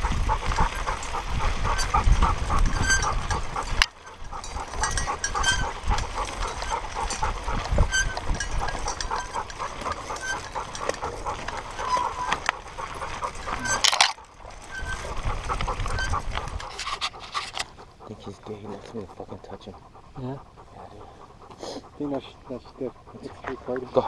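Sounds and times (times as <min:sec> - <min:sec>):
wind rumble: 0:00.0 - 0:23.8
dog panting rapidly: 0:00.0 - 0:24.0.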